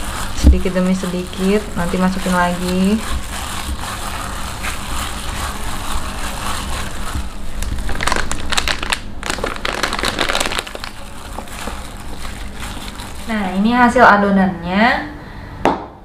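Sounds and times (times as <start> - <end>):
hand kneading sticky dough: 0.0 - 14.0
plastic crinkling: 0.0 - 14.0.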